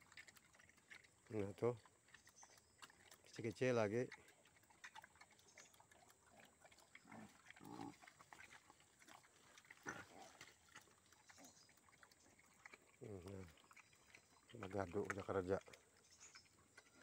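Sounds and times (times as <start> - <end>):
pigs grunting faintly: 0.0 - 17.0.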